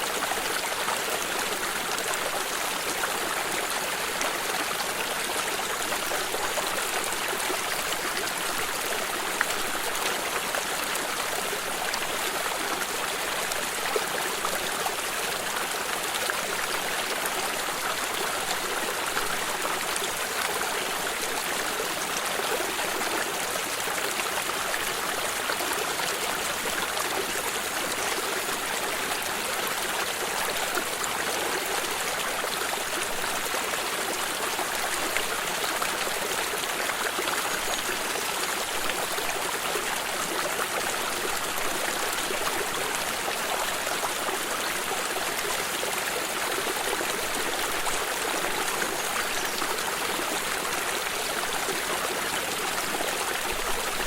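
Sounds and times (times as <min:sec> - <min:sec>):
water stream over rocks: 0:00.0 - 0:54.0.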